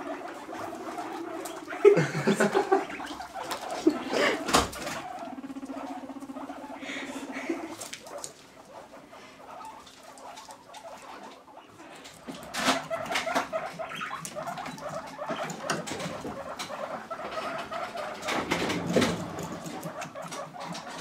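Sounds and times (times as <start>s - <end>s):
guinea pig rumbling purr: 0.0s - 21.0s.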